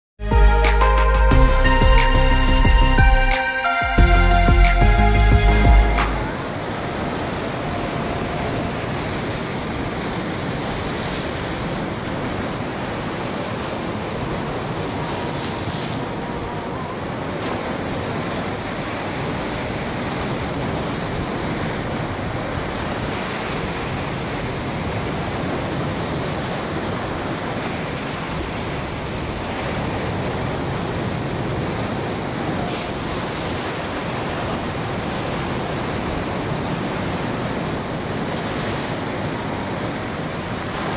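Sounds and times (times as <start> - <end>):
ocean waves washing on beach: 6.0 - 40.9.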